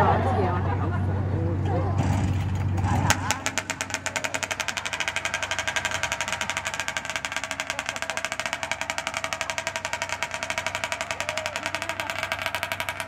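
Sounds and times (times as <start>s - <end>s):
chainsaw idling: 1.9s - 13.0s.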